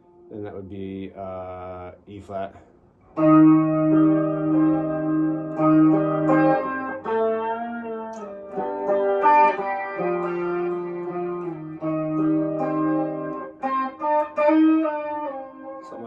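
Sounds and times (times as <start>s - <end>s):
electric guitar chord riff: 3.1s - 16.0s.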